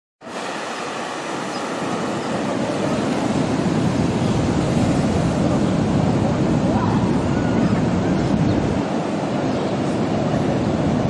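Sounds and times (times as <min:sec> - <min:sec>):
waves breaking on beach: 0:00.2 - 0:11.0.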